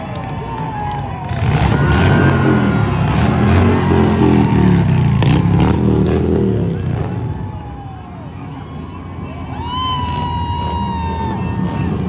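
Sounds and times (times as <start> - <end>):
vehicle engines revving: 0.0 - 12.0.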